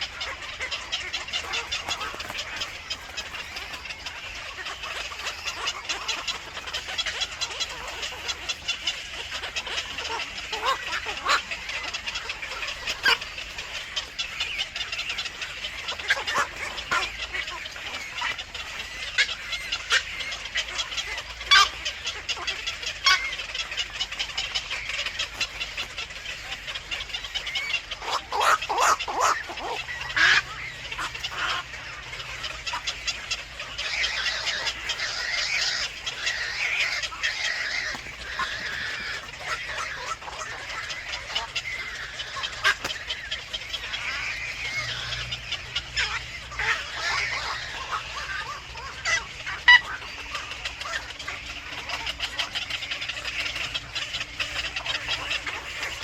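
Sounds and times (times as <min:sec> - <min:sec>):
birds chattering: 0:00.0 - 0:56.0
sharp bird calls: 0:00.0 - 0:56.0.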